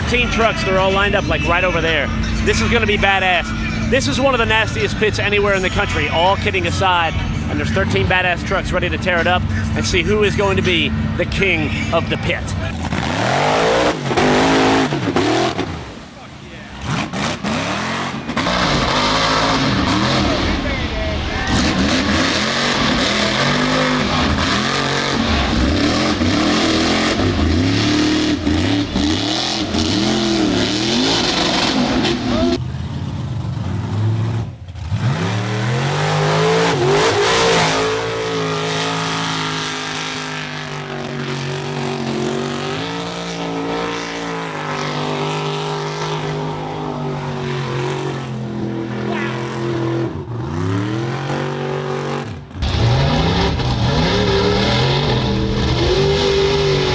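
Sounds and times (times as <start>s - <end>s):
truck engines revving hard: 0.0s - 56.9s.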